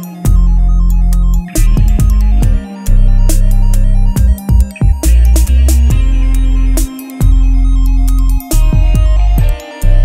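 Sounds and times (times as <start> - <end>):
electronic music with deep bass: 0.0 - 10.0.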